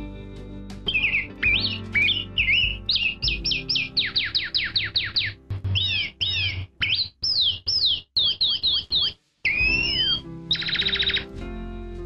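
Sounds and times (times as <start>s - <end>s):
bird singing whistled notes: 0.9s - 11.4s.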